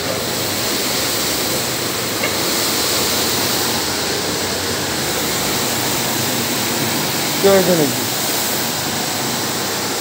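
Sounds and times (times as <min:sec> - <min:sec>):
water rushing from spray pipe: 0:00.0 - 0:10.0.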